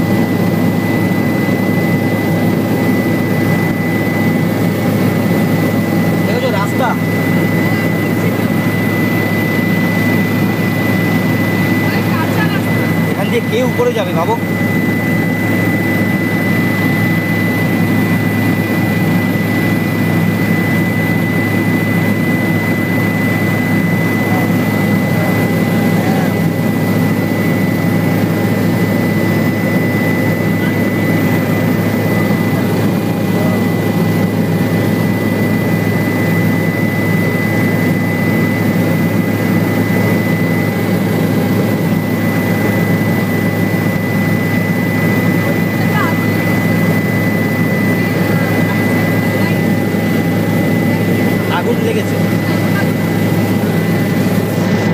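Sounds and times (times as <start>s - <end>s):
helicopter rotor drone: 0.0s - 54.9s
high-pitched turbine whine: 0.0s - 54.9s.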